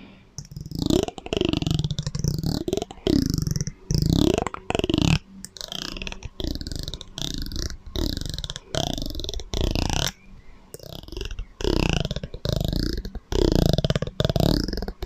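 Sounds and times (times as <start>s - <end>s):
low croaking throat sounds with echo: 0.0s - 15.0s.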